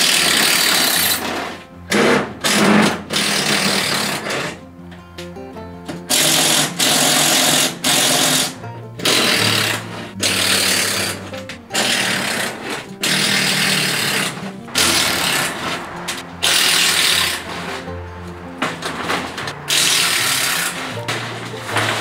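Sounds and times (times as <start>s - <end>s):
power tool bursts: 0.0s - 4.6s, 6.1s - 22.0s
background music: 0.0s - 22.0s.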